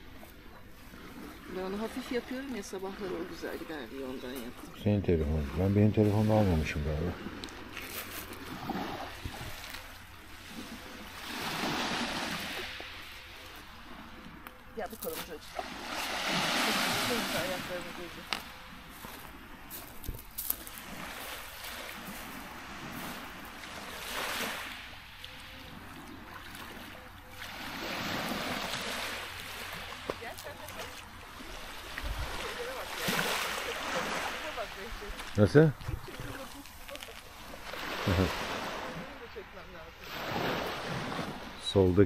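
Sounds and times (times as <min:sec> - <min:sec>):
waves washing onto pebbles: 0:00.0 - 0:42.0.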